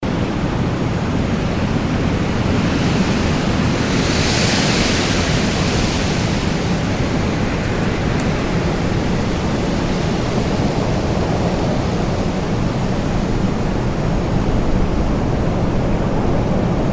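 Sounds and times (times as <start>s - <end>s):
wind blowing with low rumble: 0.0s - 16.9s.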